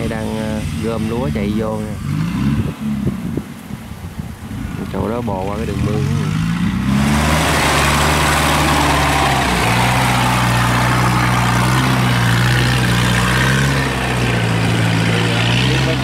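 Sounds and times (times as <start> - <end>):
tracked vehicle engine running: 0.0 - 16.0.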